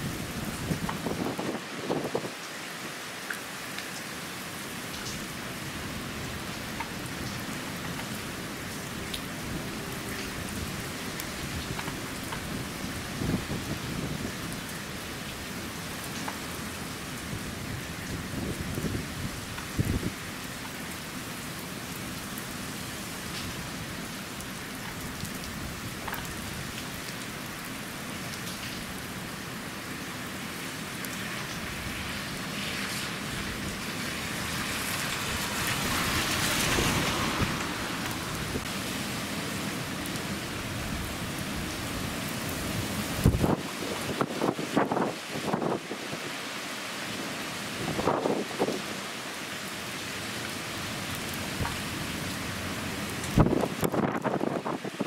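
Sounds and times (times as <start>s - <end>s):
heavy rain on paved street: 0.0s - 55.0s.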